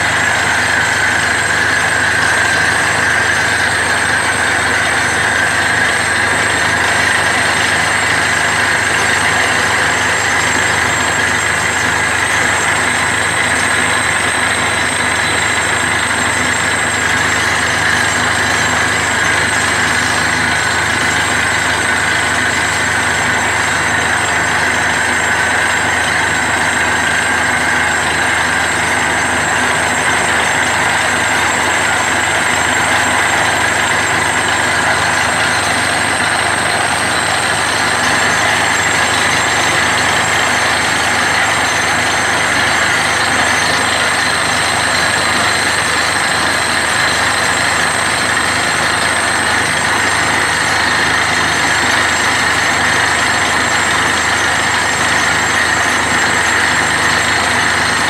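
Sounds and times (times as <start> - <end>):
drilling rig running: 0.0 - 58.0.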